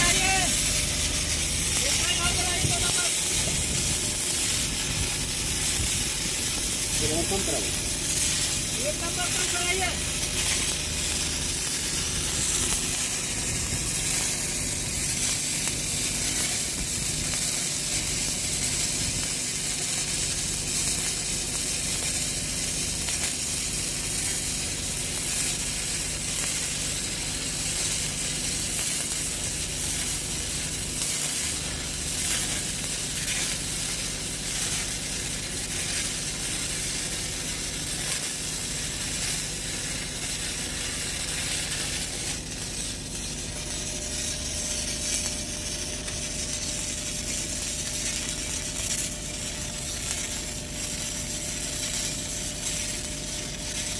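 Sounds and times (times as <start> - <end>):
welding arc crackling sizzle: 0.0 - 53.9.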